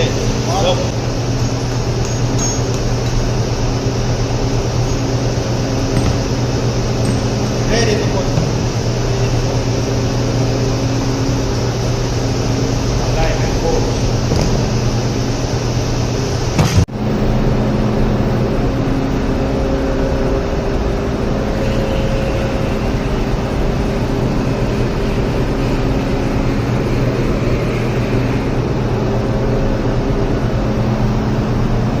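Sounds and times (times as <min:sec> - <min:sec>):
machinery humming: 0:00.0 - 0:32.0.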